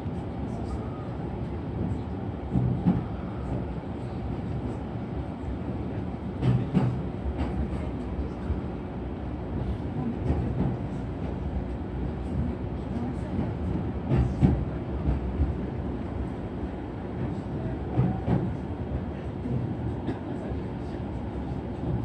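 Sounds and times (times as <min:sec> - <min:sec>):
train running gear rumble: 0:00.0 - 0:22.0.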